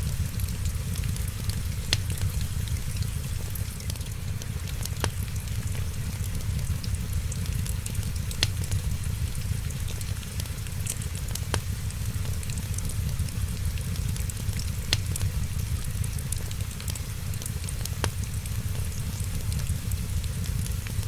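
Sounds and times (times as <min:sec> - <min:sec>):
sharp pops of fire: 0:00.0 - 0:20.7
fire low rumble and hiss: 0:00.0 - 0:21.0
wood fire crackling: 0:00.0 - 0:21.0.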